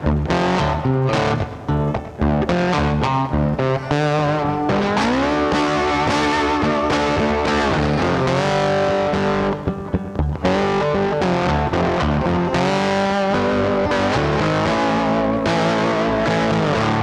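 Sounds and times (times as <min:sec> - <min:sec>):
distorted electric guitar music: 0:00.0 - 0:17.0.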